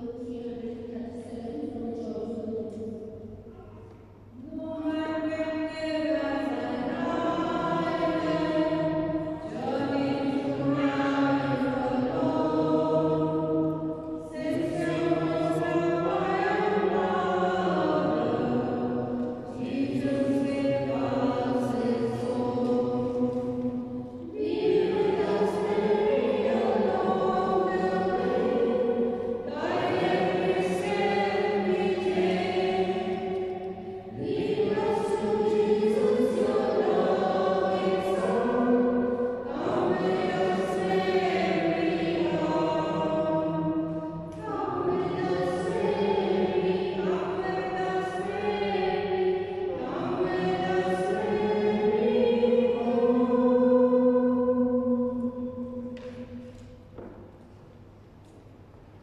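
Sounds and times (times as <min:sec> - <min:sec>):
voices singing a hymn: 0:00.0 - 0:57.6.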